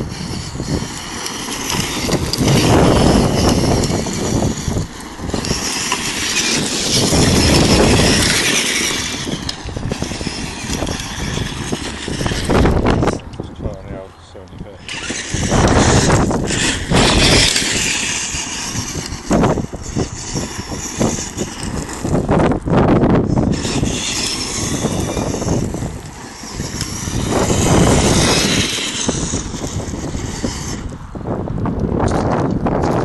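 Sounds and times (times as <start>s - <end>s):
rc truck running over gravel: 0.0s - 33.0s
wind buffeting microphone: 0.0s - 33.0s.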